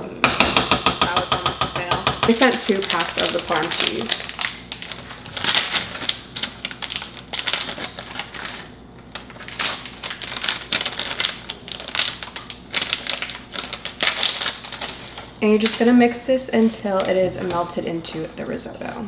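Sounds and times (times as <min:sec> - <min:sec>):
plastic packets crinkling: 0:02.3 - 0:18.7.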